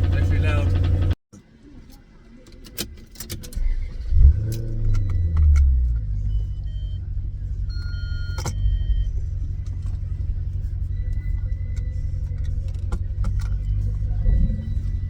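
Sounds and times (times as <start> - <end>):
car engine cold start and idle: 0.0 - 15.0.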